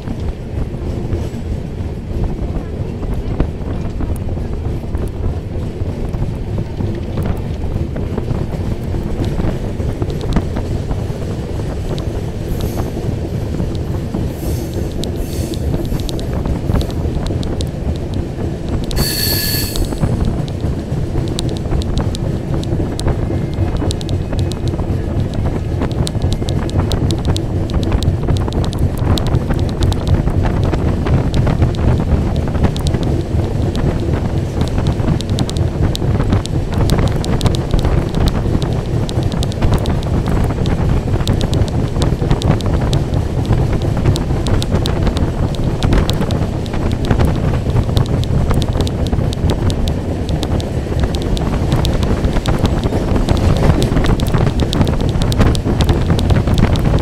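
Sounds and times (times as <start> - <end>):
wind buffeting microphone: 0.0 - 19.0, 19.8 - 57.0
train rumble: 0.0 - 57.0.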